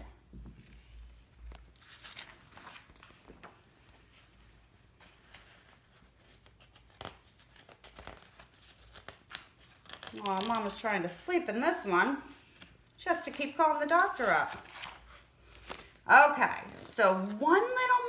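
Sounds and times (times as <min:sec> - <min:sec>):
book pages rustling: 0:00.2 - 0:11.3, 0:12.3 - 0:17.8.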